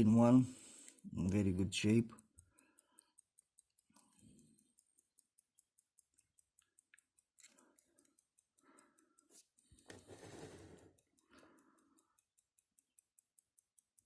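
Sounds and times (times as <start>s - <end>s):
pocket watch ticking: 0.0s - 14.0s.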